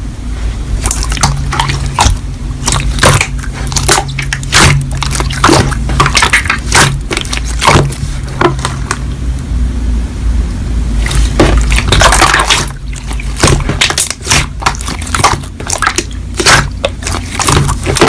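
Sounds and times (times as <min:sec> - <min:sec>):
slime squished by hand: 0:00.8 - 0:09.1, 0:11.0 - 0:18.0.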